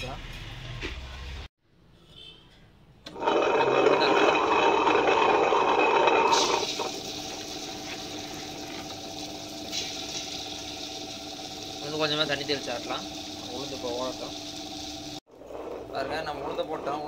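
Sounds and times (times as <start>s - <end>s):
wet grinder grinding: 3.1s - 17.0s.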